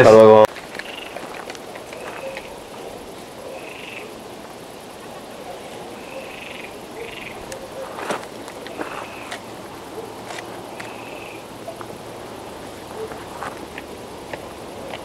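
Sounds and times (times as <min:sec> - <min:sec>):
frogs calling: 0:00.0 - 0:15.0
steady background hiss: 0:00.0 - 0:15.0.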